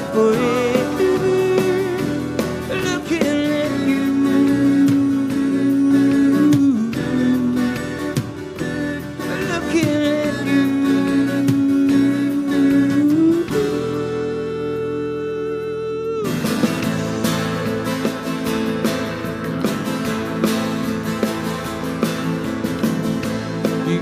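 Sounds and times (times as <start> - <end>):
live soft rock band: 0.0 - 24.0.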